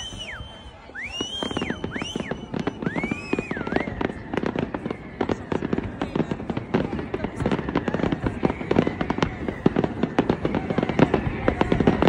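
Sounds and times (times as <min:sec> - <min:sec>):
firework whistles: 0:00.0 - 0:12.0
fireworks bangs and crackles: 0:00.0 - 0:12.0.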